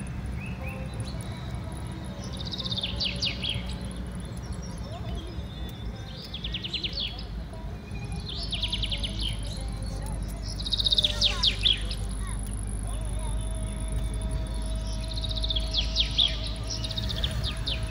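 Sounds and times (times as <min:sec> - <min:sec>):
car road noise rumble: 0:00.0 - 0:17.9
bird singing falling trills: 0:00.2 - 0:17.9.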